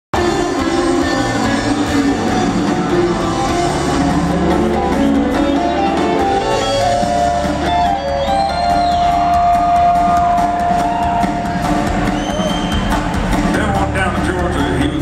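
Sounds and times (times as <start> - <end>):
drums: 0.1 - 15.0
electric guitars: 0.2 - 15.0.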